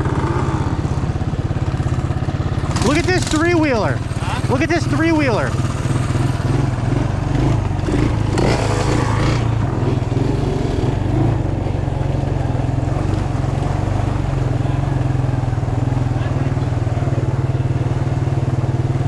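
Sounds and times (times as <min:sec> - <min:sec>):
small engine puttering: 0:00.0 - 0:18.4.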